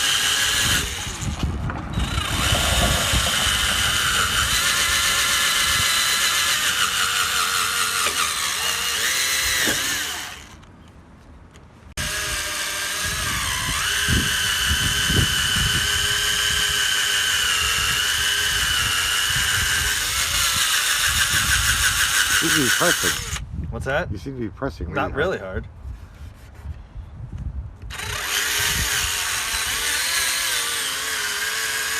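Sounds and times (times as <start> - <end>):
electric drill sanding plastic: 0.0 - 10.6, 12.0 - 23.4, 27.9 - 31.9.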